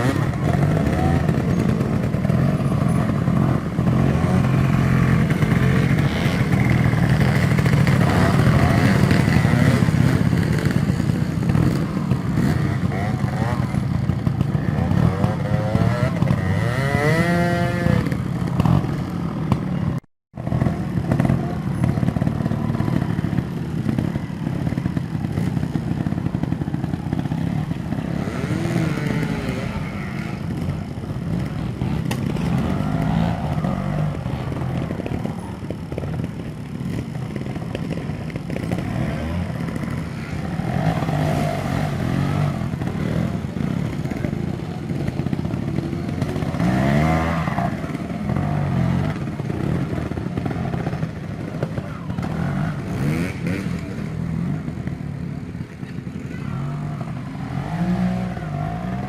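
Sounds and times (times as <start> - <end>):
clatter: 0.0 - 59.0
motorcycle engines revving: 0.0 - 59.0.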